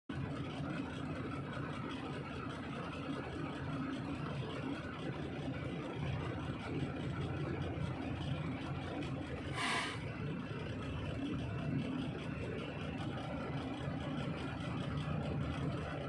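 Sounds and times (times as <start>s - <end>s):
vehicle engine running: 0.1s - 16.0s.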